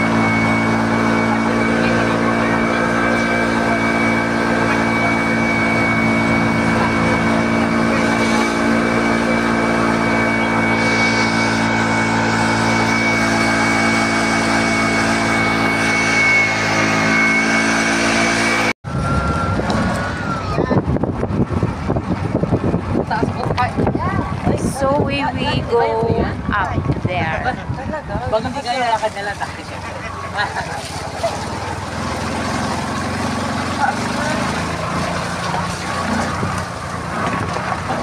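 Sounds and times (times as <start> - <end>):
vehicle engine droning: 0.0 - 38.0
wind and road noise: 7.5 - 38.0.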